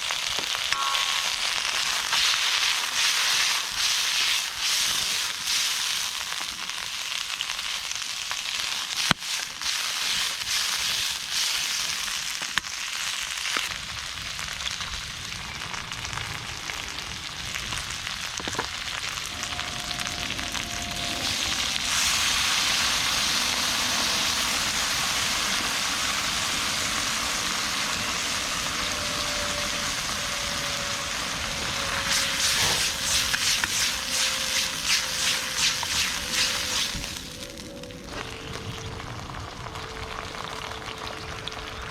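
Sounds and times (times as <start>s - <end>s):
food sizzling in a wok: 0.0s - 37.8s
sharp crackles: 0.0s - 41.9s.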